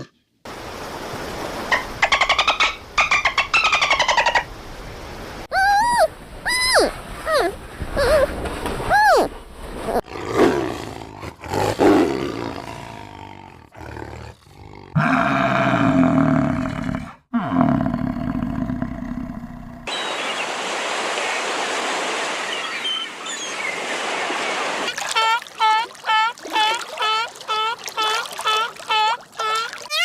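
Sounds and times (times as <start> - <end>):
outdoor noise: 0.0 - 30.0.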